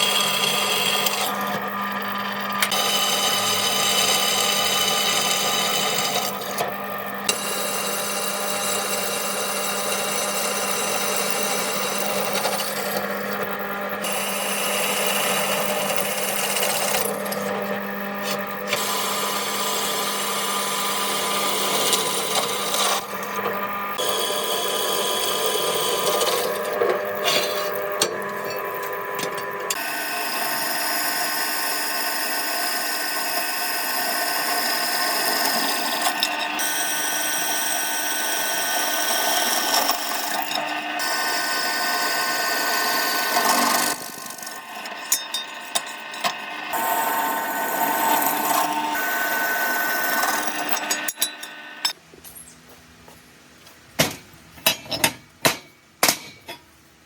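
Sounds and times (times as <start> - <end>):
power tools grinding metal: 0.0 - 52.0.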